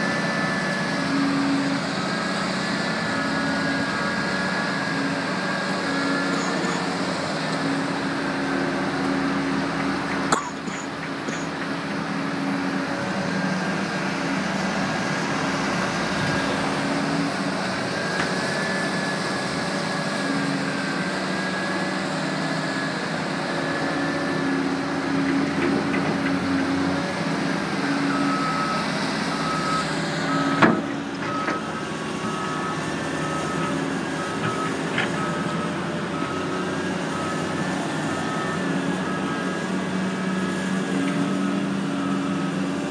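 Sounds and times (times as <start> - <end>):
diesel engine running: 0.0 - 42.9
reversing alarm beeping: 0.0 - 42.9.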